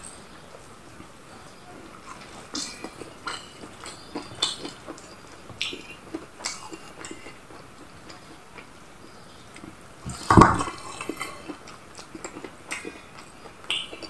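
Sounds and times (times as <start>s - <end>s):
man chewing with mouth open: 0.0s - 14.0s.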